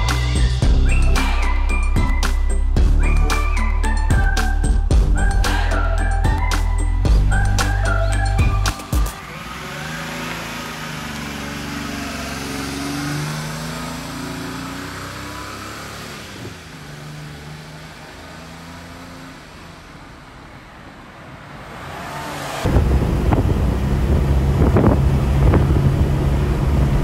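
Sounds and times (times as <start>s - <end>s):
small truck engine revving: 0.0s - 20.4s, 21.5s - 27.0s.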